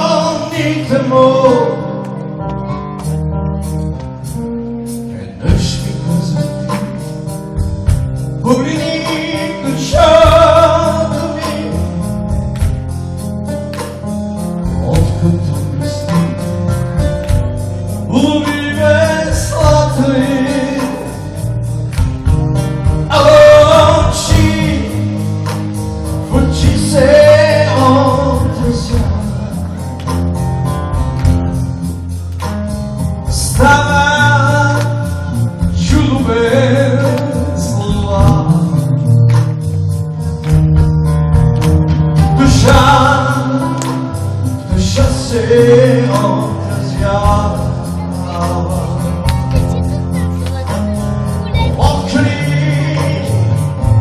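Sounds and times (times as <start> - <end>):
man singing: 0.0 - 2.4, 5.0 - 7.2, 7.9 - 12.8, 13.9 - 21.6, 22.8 - 30.2, 33.2 - 39.5, 41.8 - 54.0
live rock band playing: 0.0 - 54.0.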